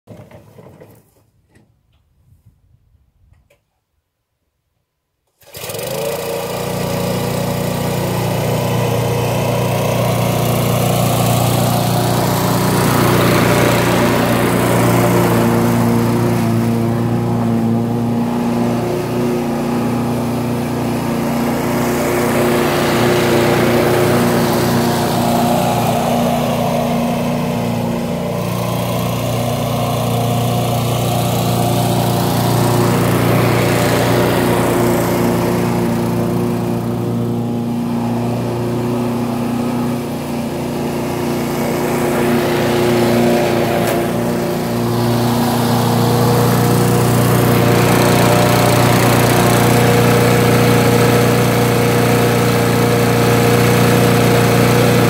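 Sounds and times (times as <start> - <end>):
lawnmower engine running: 5.4 - 55.0.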